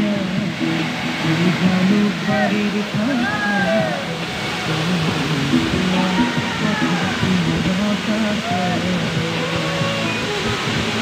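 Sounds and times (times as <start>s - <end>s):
music playing: 0.0s - 11.0s
waterfall rushing: 0.0s - 11.0s.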